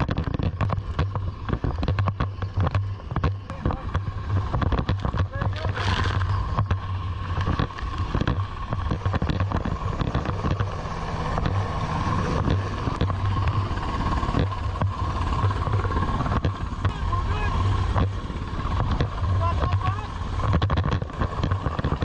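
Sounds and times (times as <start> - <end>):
helicopter rotor pulse and whine: 0.0 - 22.0
wind buffeting microphone: 0.0 - 22.0.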